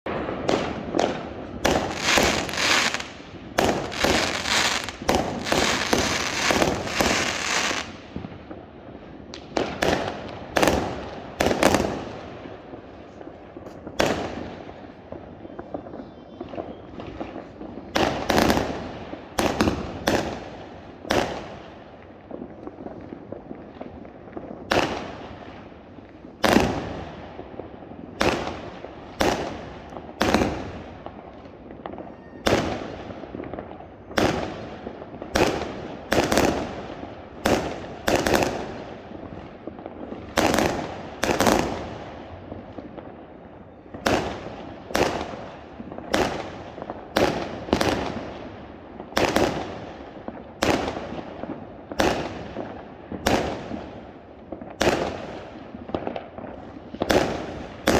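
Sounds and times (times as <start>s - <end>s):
fireworks exploding: 0.1s - 57.9s.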